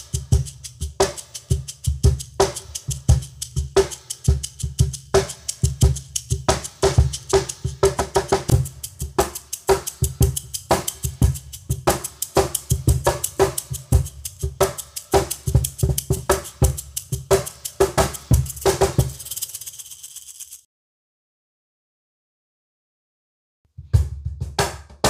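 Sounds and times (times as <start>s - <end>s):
cajon played by hand: 0.0s - 20.3s
shaker: 0.0s - 20.7s.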